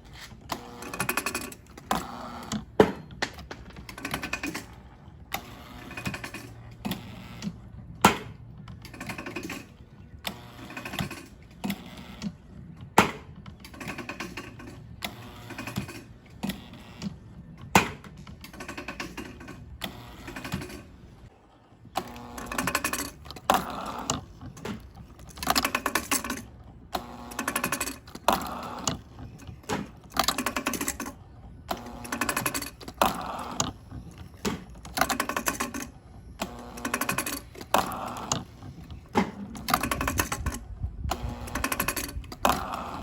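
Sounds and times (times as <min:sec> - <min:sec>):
hydraulic engine clicking: 0:00.0 - 0:43.0.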